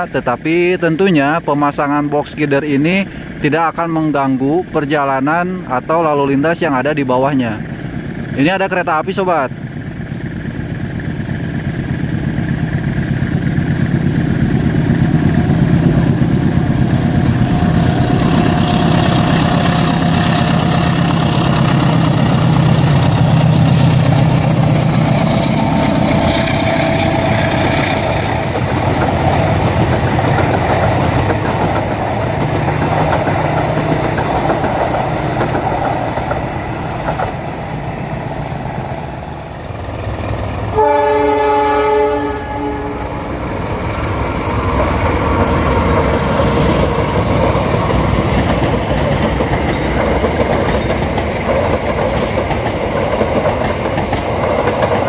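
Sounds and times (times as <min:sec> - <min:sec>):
diesel locomotive engine rumble: 0:00.0 - 0:55.0.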